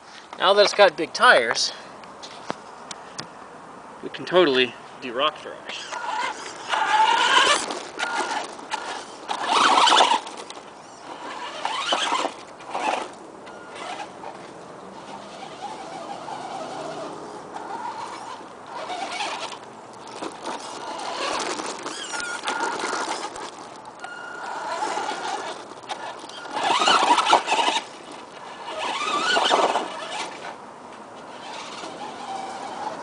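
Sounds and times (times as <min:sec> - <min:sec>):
rc truck motor whining: 0:05.7 - 0:30.6, 0:31.2 - 0:33.0.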